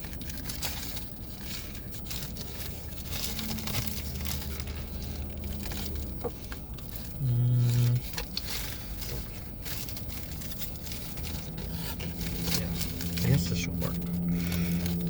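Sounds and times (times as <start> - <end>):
faint low hum: 0.0 - 15.0
food packaging crinkling: 0.0 - 15.0.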